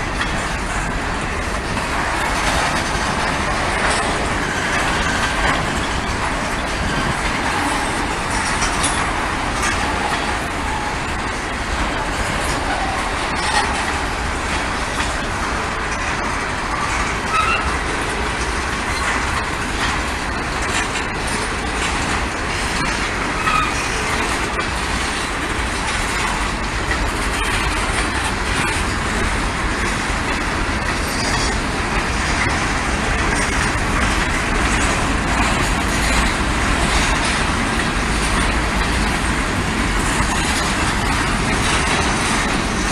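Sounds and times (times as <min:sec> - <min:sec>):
freight train rolling on rails: 0:00.0 - 0:42.9.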